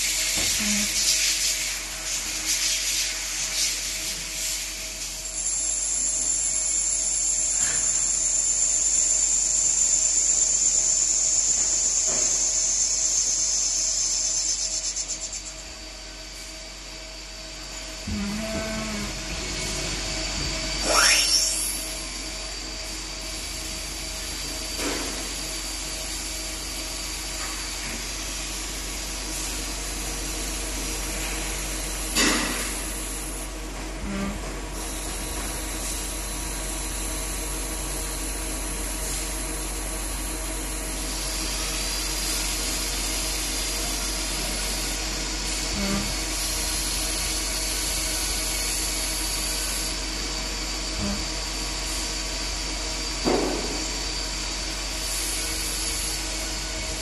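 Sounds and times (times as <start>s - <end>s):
lathe humming with high whine: 3.8s - 57.0s.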